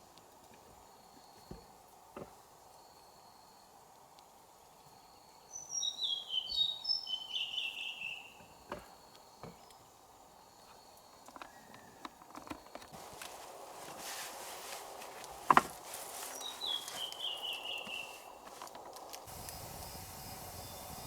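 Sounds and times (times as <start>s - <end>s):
forest background: 0.0s - 21.0s
faint insect tone: 0.1s - 21.0s.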